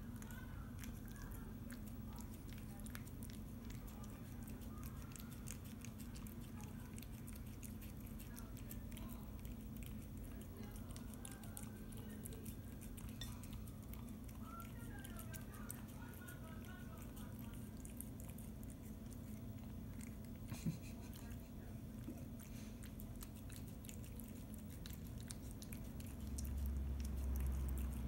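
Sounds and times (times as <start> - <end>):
cat chewing and licking: 0.0 - 28.0
steady low hum: 0.0 - 28.0.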